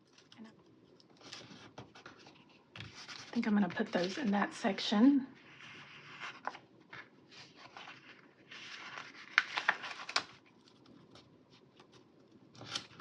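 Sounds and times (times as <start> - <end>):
paper rustling: 0.0 - 4.8, 5.4 - 13.0.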